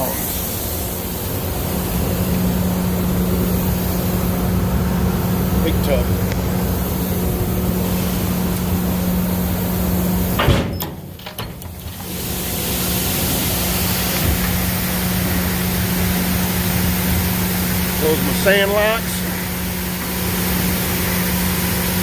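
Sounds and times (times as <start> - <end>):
diesel engine idling: 0.0 - 10.4, 11.1 - 22.0.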